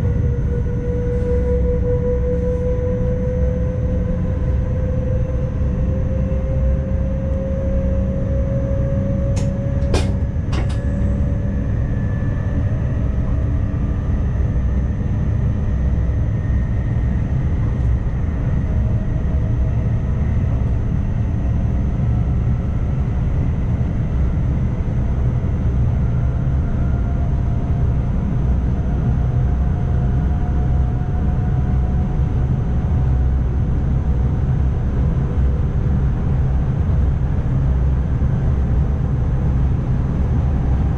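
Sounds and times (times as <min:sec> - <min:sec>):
train low rumble with whine: 0:00.0 - 0:40.9.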